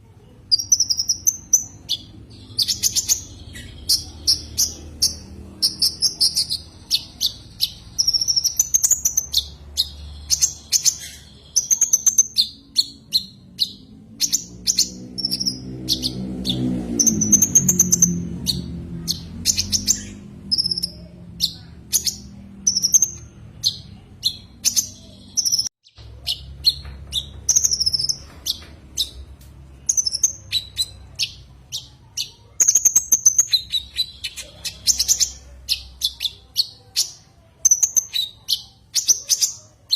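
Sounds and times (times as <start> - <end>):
small bird chirping and trilling: 0.2 - 39.9.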